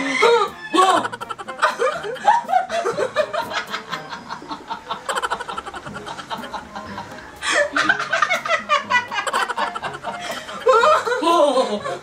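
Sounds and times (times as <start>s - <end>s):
women laughing and giggling: 0.2s - 12.0s.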